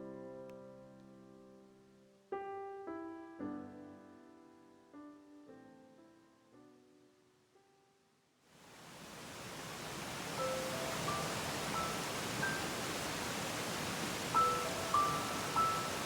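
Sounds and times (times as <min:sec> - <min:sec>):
soft piano music: 0:00.0 - 0:08.2, 0:10.1 - 0:16.0.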